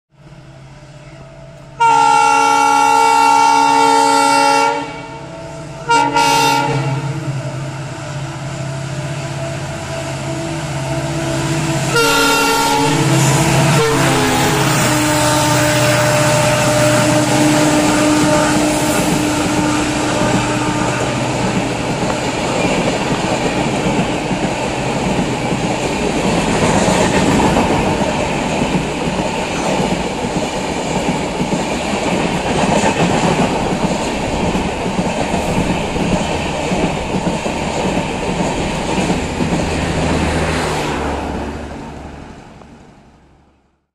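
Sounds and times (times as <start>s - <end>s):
train wheels rushing on rails: 0.2s - 43.1s.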